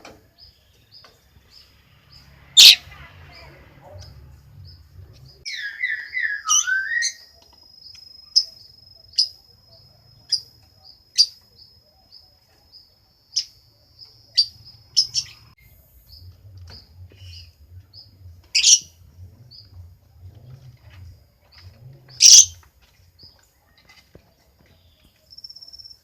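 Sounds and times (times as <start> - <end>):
lovebird chirping: 0.4 - 23.8.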